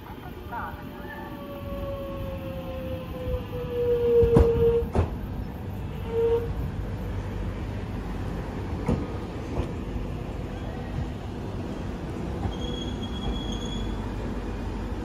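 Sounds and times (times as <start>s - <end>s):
electric train whine: 0.0s - 15.0s
train rumble: 0.0s - 15.0s.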